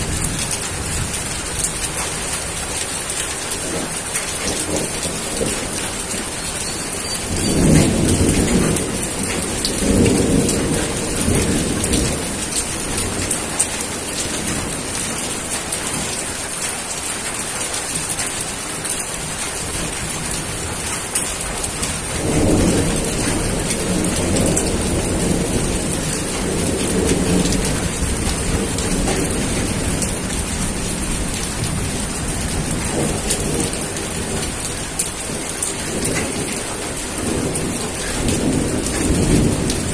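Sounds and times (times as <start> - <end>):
thunder rolling: 0.0 - 15.1, 22.1 - 39.9
heavy rain falling: 0.0 - 39.9.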